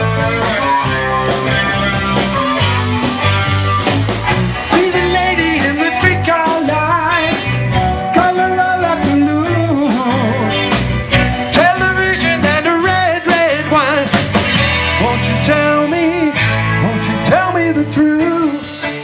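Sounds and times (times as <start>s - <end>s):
blues-rock band playing: 0.0s - 19.0s
saxophone lead line: 0.0s - 19.0s.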